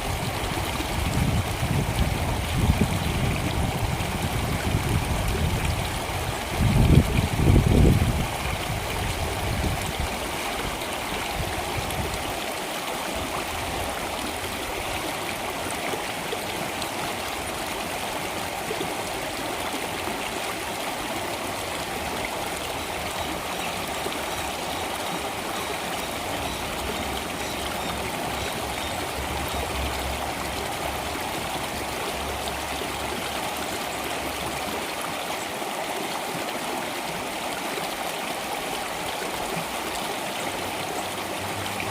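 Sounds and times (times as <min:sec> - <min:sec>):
stream water flowing: 0:00.0 - 0:41.9.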